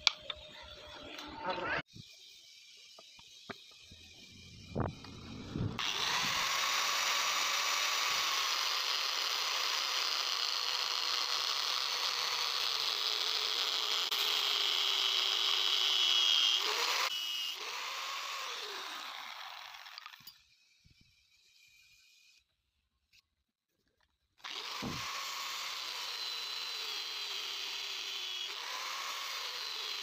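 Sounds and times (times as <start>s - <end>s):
electric power tool running: 0.3s - 22.4s, 24.4s - 30.0s.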